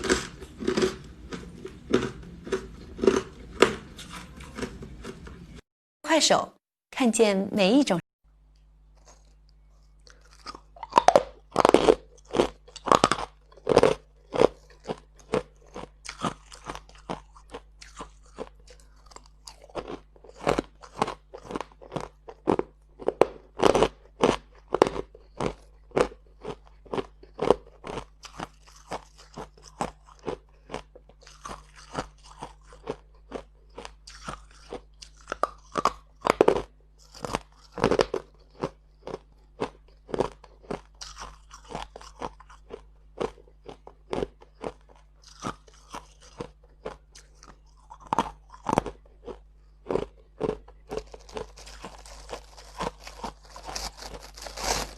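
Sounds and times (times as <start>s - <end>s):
chewing crunchy ice: 0.0s - 5.6s, 8.9s - 54.9s.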